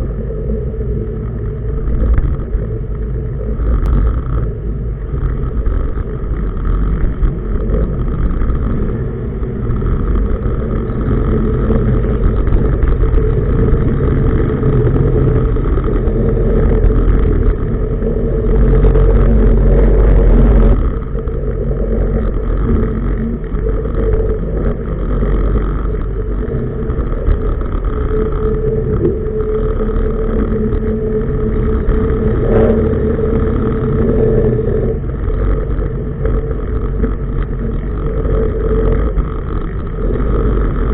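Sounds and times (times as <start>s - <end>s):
boat diesel engine rumbling: 0.0s - 40.9s.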